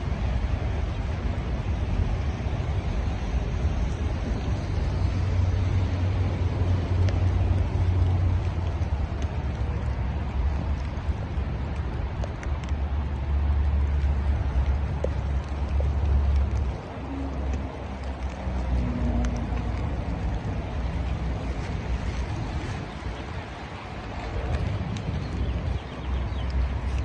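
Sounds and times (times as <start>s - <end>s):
road noise hiss: 0.0s - 27.0s
vehicle low rumble: 0.0s - 27.0s.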